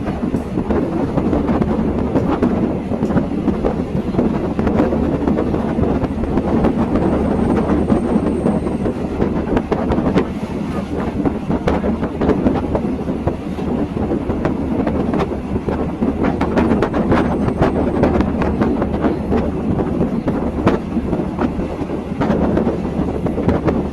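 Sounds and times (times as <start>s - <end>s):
train wheels rumbling: 0.0s - 23.9s.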